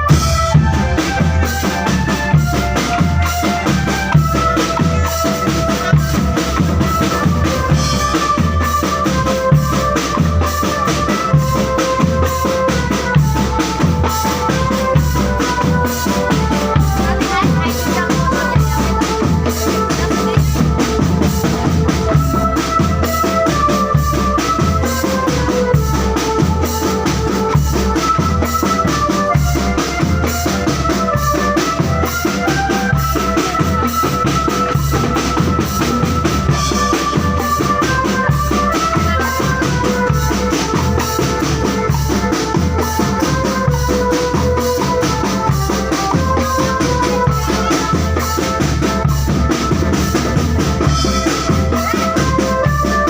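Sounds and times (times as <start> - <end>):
bass drums beating: 0.0 - 53.0
marching drum band playing: 0.0 - 53.0
melody of held notes: 0.0 - 53.0
snare drums with rimshots: 0.0 - 53.0.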